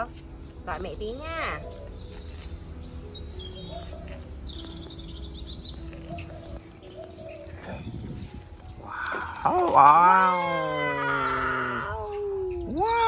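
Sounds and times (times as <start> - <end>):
faint bird chirping: 0.0 - 13.0
high-pitched insect drone: 0.0 - 13.0.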